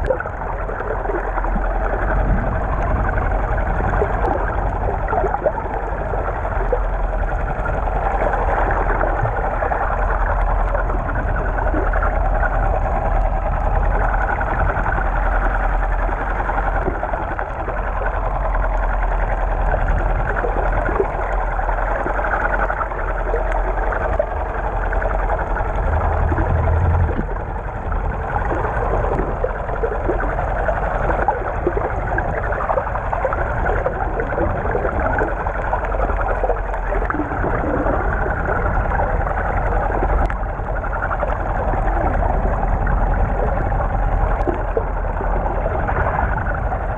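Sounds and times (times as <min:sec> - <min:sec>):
low rumble: 0:00.0 - 0:46.9
muffled underwater water rushing: 0:00.0 - 0:46.9.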